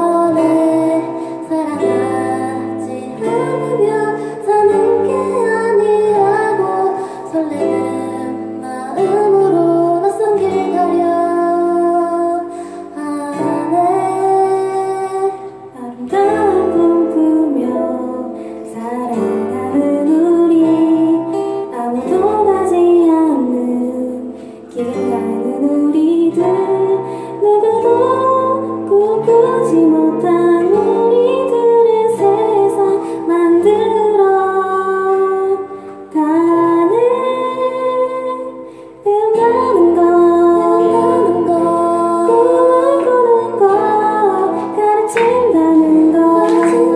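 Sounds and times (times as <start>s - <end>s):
guitar accompaniment: 0.0s - 46.9s
woman singing: 0.0s - 46.9s.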